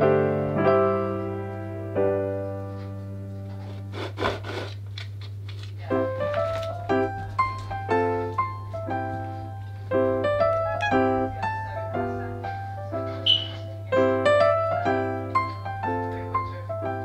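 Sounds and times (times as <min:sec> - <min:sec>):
piano music: 0:00.0 - 0:04.2, 0:05.8 - 0:17.0.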